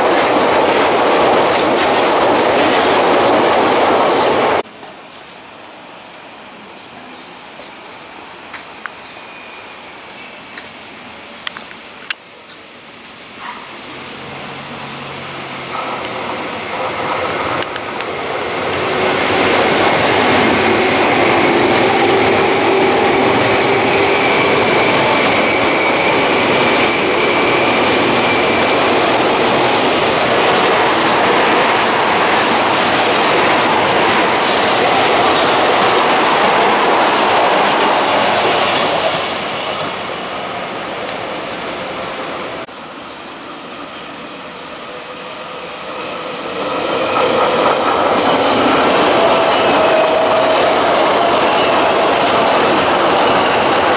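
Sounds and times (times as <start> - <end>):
train wheels rumbling on rail: 0.0 - 5.4, 7.9 - 42.8, 43.4 - 53.9
train approaching: 0.0 - 53.9.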